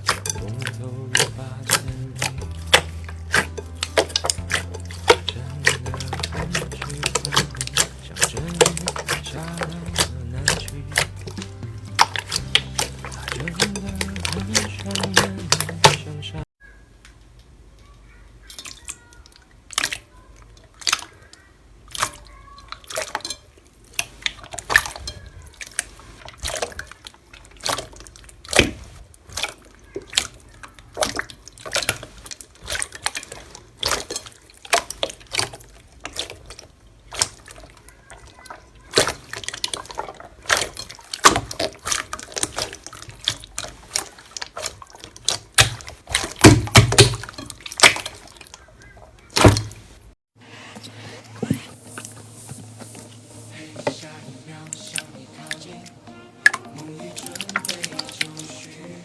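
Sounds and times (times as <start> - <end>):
slime squished by hand: 0.0 - 16.2, 18.4 - 50.1.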